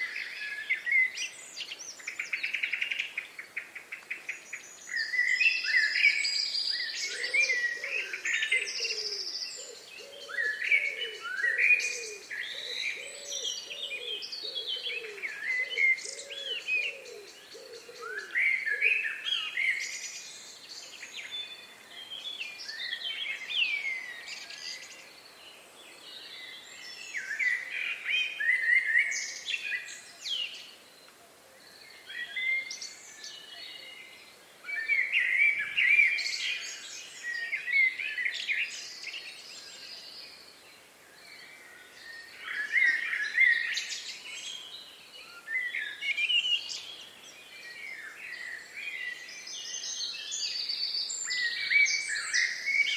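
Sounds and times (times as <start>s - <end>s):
songbirds chirping and singing: 0.0s - 52.9s.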